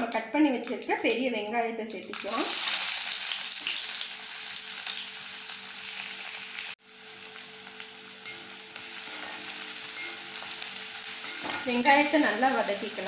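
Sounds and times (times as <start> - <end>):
onions sizzling in hot oil: 2.1 - 13.0.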